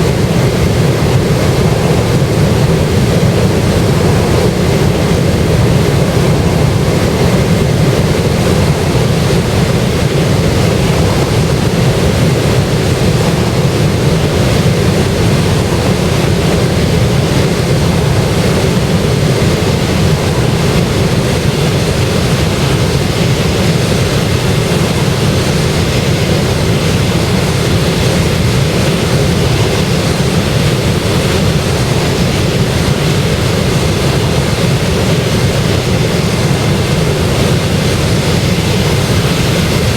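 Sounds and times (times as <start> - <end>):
jet rumble: 0.0 - 39.9.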